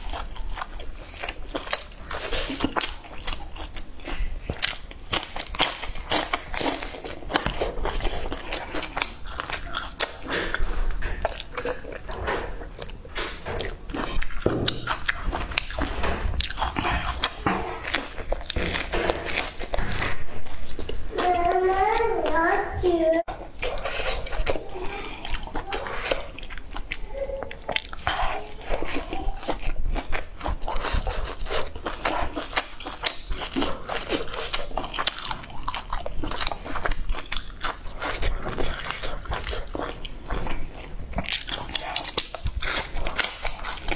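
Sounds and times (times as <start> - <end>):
chewing and biting: 0.0 - 22.4, 23.3 - 43.9.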